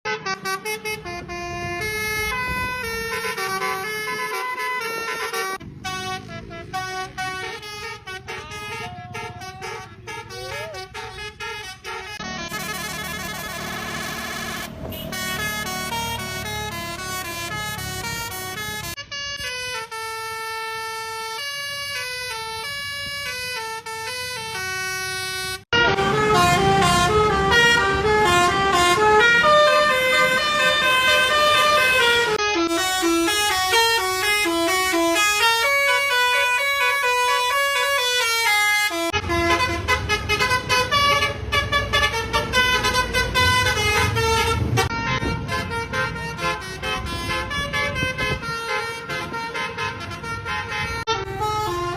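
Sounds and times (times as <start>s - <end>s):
musical bus horns playing melodies: 0.0s - 51.9s.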